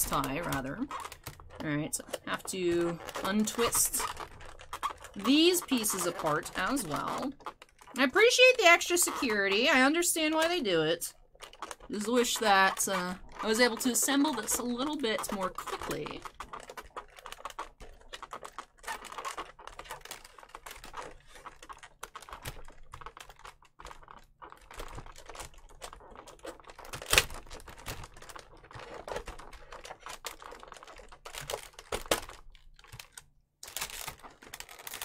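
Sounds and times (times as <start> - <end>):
packaging rustling: 0.0 - 9.6, 10.3 - 35.0
small plastic clicks: 0.1 - 9.3, 10.3 - 35.0.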